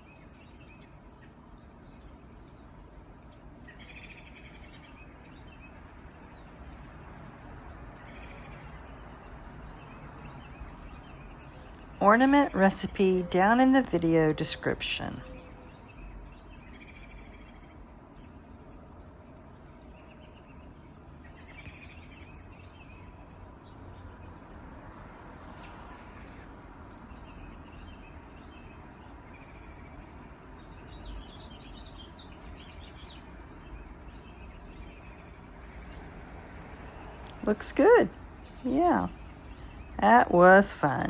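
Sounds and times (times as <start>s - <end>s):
songbirds chirping: 0.0s - 41.0s.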